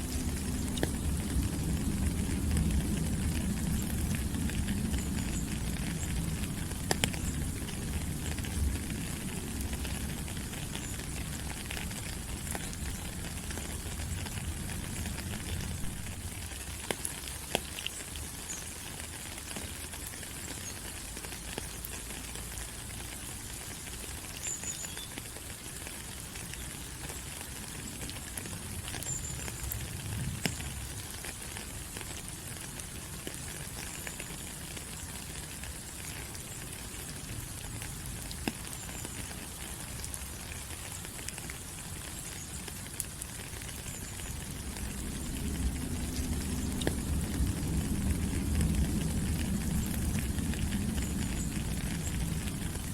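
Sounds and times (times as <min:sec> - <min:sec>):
rain falling on leaves: 0:00.0 - 0:52.9
water dripping: 0:00.0 - 0:52.9.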